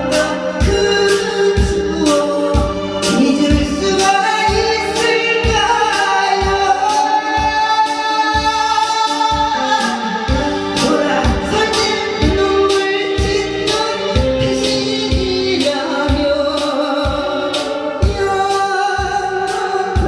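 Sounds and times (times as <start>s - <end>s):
amplified backing music: 0.0s - 20.0s
person singing: 0.0s - 20.0s
steady drum beat: 0.0s - 20.0s.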